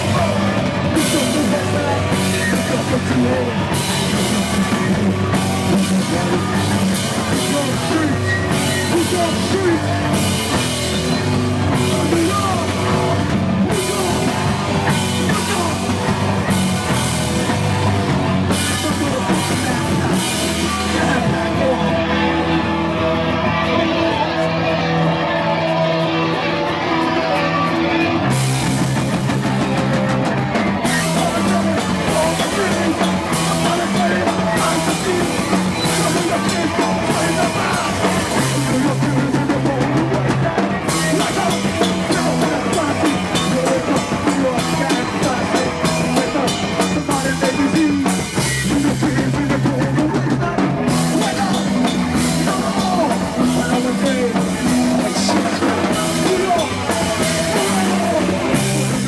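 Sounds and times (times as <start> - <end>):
bass guitar low notes: 0.0 - 59.0
electric guitar: 0.0 - 59.0.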